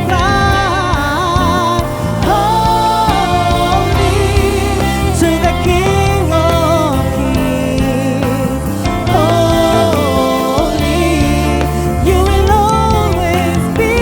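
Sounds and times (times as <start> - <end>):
instrumental accompaniment: 0.0 - 14.0
person singing worship song: 0.0 - 14.0.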